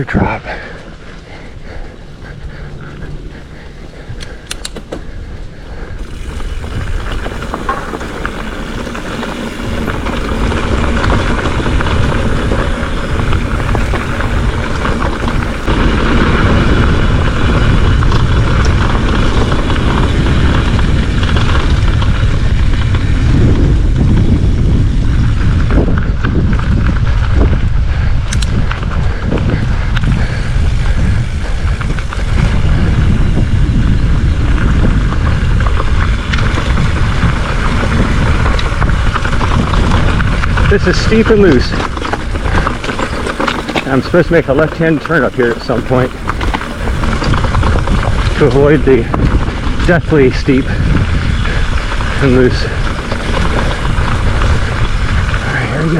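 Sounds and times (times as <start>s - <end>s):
tyres rumbling on dirt: 0.0s - 27.8s, 28.4s - 55.9s
wind rushing over microphone: 0.0s - 55.9s
sharp clicks and rattles: 1.1s - 24.6s, 25.5s - 55.9s.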